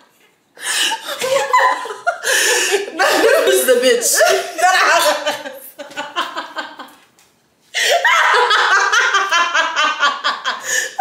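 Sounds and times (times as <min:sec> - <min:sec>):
women laughing: 0:00.8 - 0:07.0, 0:07.8 - 0:11.0.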